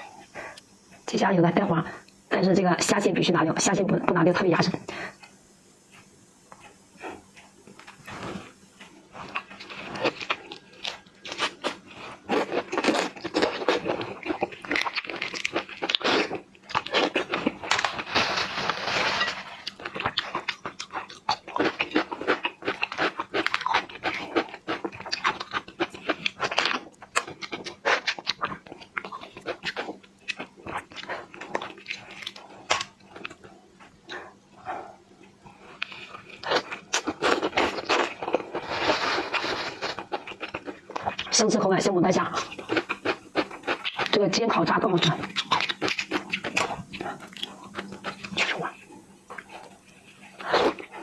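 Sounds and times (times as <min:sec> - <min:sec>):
wet chewing and smacking: 0:05.1 - 0:41.4, 0:42.2 - 0:51.0.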